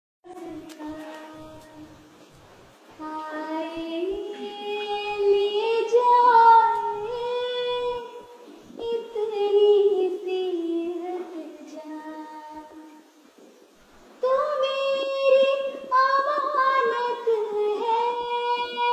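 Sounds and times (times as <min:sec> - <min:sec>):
girl singing unaccompanied: 0:00.2 - 0:02.1, 0:03.0 - 0:13.1, 0:14.2 - 0:18.9.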